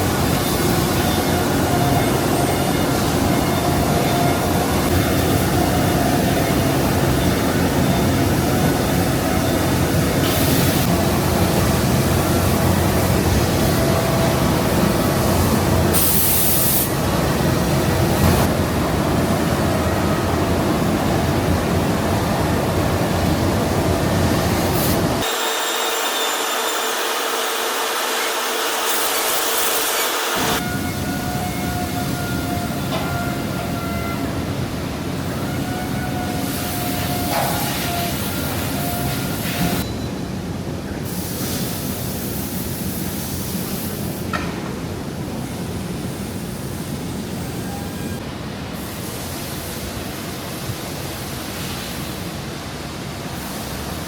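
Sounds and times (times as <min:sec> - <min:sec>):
factory machinery humming: 0:00.0 - 0:54.0.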